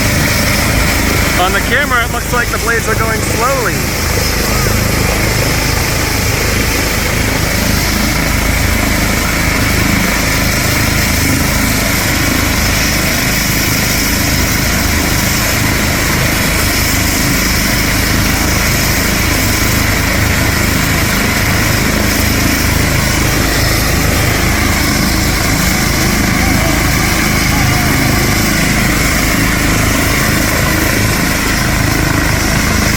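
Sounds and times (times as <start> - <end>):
helicopter rotor and engine: 0.0 - 32.9.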